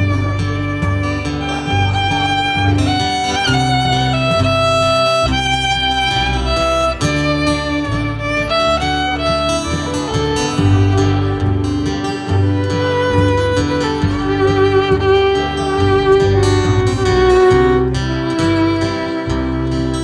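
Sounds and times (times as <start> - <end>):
bass: 0.0 - 20.0
fiddle melody with vibrato: 0.0 - 20.0
strummed acoustic guitar: 0.0 - 20.0.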